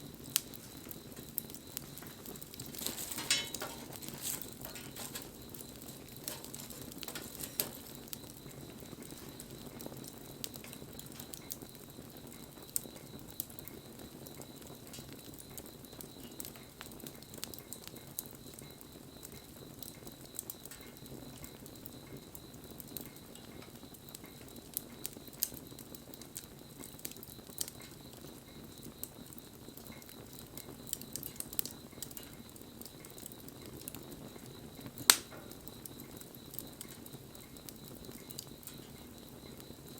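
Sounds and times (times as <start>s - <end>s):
crackles and pops of burning wood: 0.0s - 39.9s
wood fire burning: 0.0s - 39.9s.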